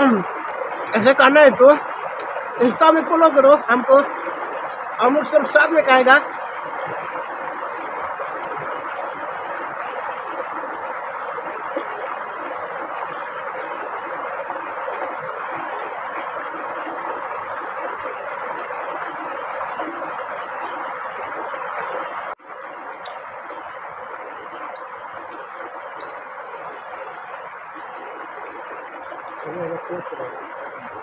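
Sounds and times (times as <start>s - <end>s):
stream water flowing: 0.0s - 31.0s.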